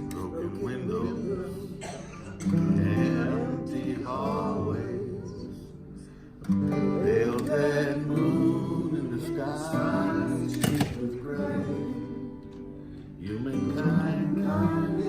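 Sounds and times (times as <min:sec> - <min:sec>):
acoustic guitars strumming: 0:00.0 - 0:15.0
people singing: 0:00.0 - 0:15.0.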